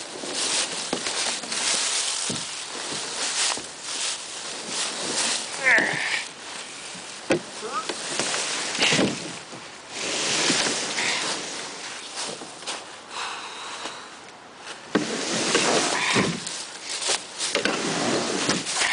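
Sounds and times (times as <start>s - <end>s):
canoe dragged over dry leaves: 0.0s - 13.2s, 14.6s - 18.9s.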